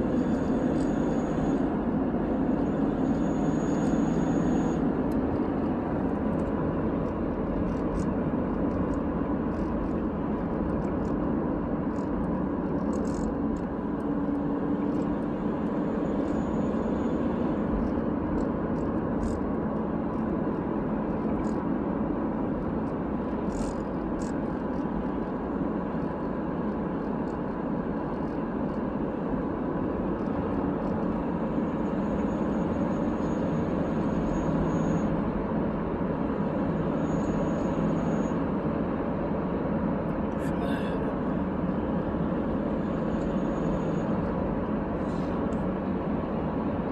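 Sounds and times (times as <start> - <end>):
steady whine: 0.0 - 46.9.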